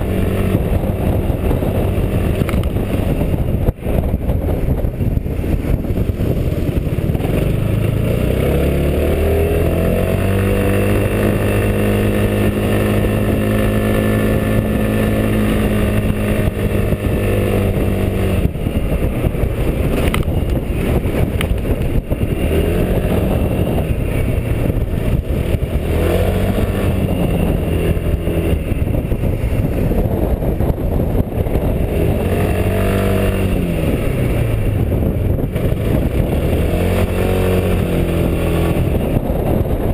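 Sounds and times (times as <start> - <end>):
scooter engine under throttle: 0.0 - 39.9
wind and road noise: 0.0 - 39.9.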